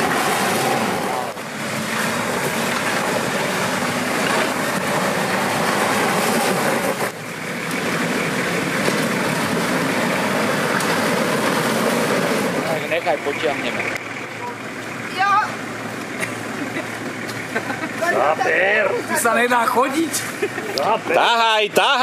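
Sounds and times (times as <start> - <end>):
off-road vehicle engine straining: 0.0 - 22.0.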